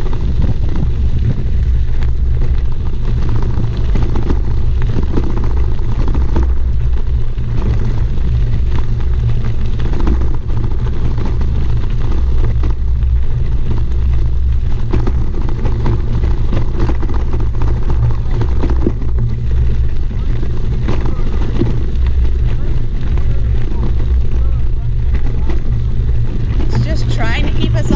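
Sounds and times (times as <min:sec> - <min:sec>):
tyres rattling on gravel: 0:00.0 - 0:27.9
wind and road rumble: 0:00.0 - 0:27.9.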